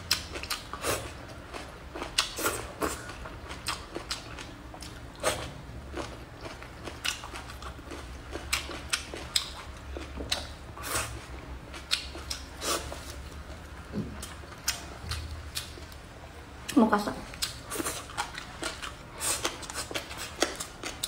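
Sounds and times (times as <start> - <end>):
crunchy vegetable chewing: 0.0 - 16.0, 17.3 - 21.0.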